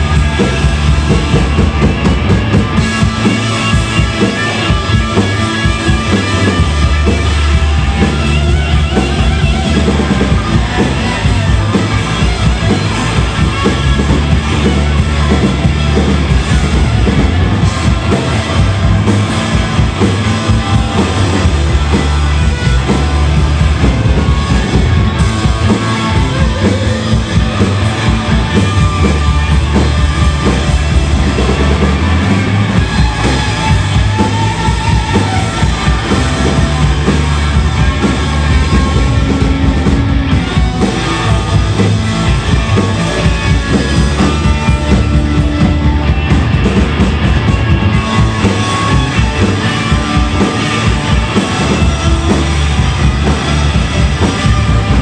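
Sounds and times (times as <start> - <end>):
distorted electric guitars: 0.0 - 55.0
drum kit beat: 0.0 - 55.0
sustained low notes: 0.0 - 55.0.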